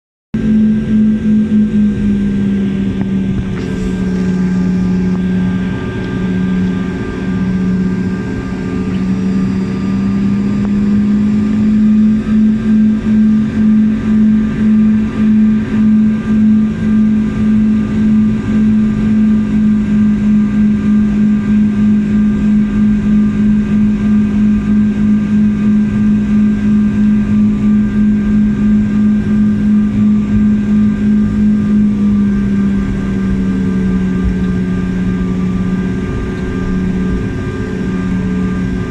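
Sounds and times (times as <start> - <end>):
airliner engines humming in cabin: 0.4 - 38.9.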